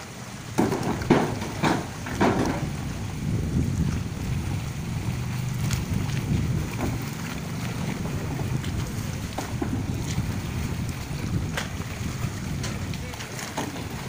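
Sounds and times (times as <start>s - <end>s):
boat engine droning: 0.0s - 14.0s
wind buffeting microphone: 0.4s - 14.0s.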